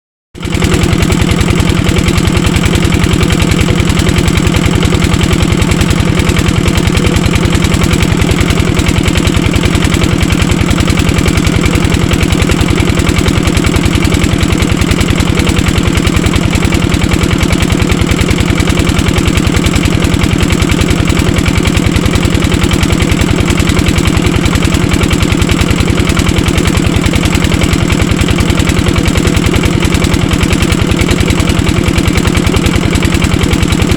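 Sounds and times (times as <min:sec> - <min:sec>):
diesel water pump engine running: 0:00.4 - 0:33.9.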